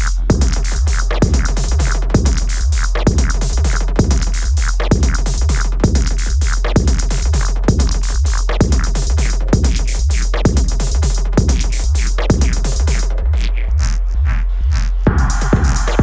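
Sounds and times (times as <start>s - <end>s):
busy hi-hats: 0.0s - 16.0s
deep held bass: 0.0s - 16.0s
kick drum: 0.0s - 16.0s.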